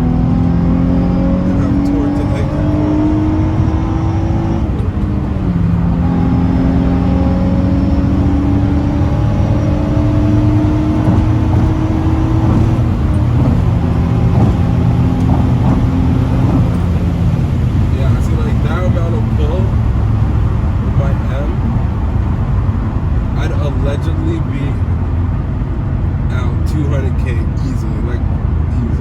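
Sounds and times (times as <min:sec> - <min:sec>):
car engine revving under load: 0:00.0 - 0:29.0.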